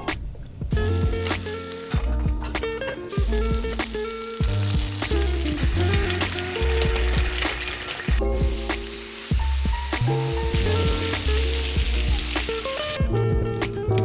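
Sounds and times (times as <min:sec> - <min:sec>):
background music: 0:00.0 - 0:14.0
food sizzling in a pan: 0:00.8 - 0:13.0.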